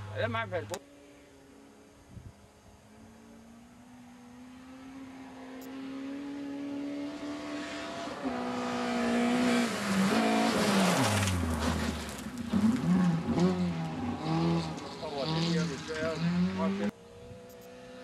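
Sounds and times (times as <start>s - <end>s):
rally car engine accelerating: 3.0s - 18.0s.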